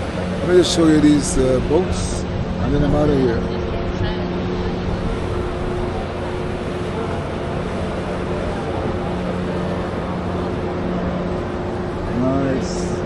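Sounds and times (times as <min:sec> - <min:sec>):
boat engine low hum: 0:00.0 - 0:13.0
outdoor noise: 0:00.0 - 0:13.0.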